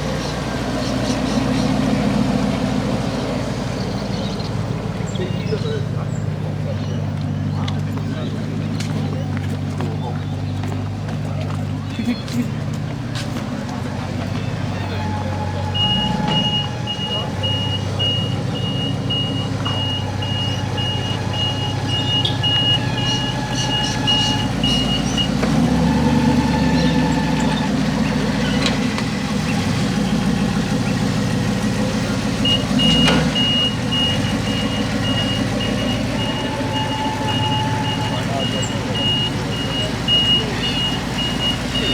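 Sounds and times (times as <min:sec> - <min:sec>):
car engines rumbling past: 0:00.0 - 0:41.9.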